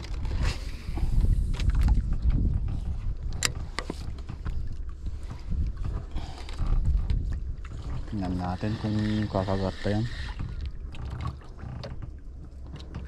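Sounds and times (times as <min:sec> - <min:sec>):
wind buffeting microphone: 0:00.0 - 0:11.2
water sloshing around boat: 0:00.0 - 0:13.0.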